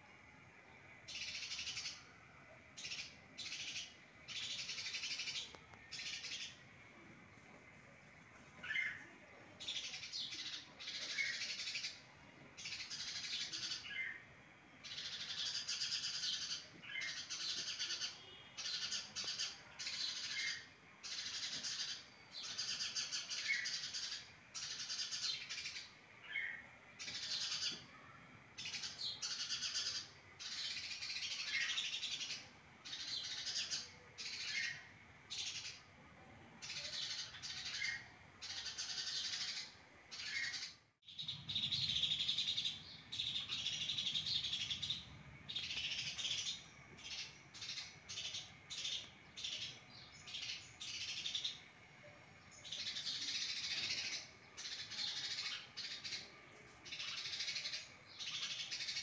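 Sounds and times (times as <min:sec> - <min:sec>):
sparrows chirping: 0:00.0 - 0:07.1, 0:08.5 - 0:35.9, 0:36.6 - 0:59.0.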